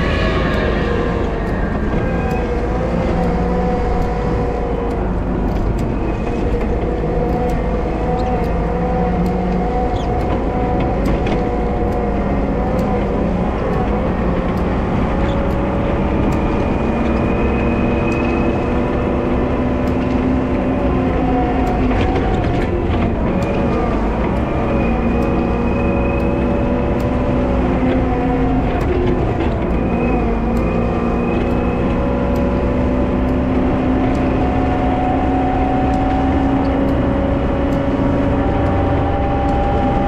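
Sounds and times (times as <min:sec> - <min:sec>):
diesel engine running: 0:00.0 - 0:40.0
faint ticks: 0:00.0 - 0:40.0.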